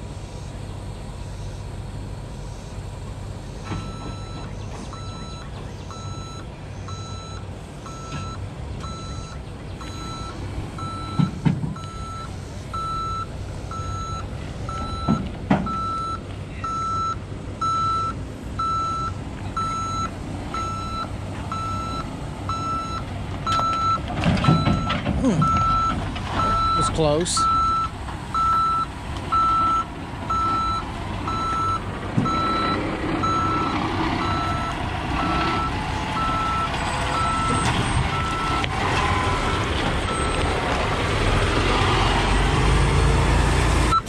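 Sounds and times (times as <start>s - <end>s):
diesel engine running: 0.0s - 44.0s
truck reversing alarm beeping: 0.0s - 44.0s.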